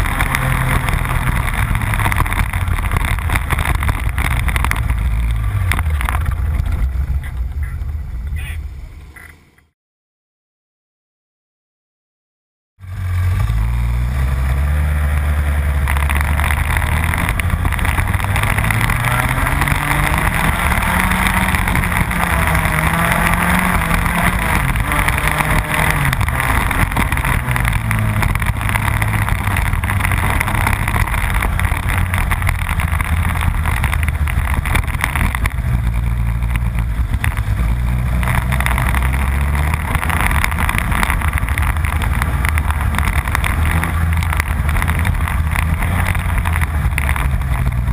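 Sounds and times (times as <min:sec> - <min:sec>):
kart engine revving: 0:00.0 - 0:08.5, 0:12.8 - 0:47.9.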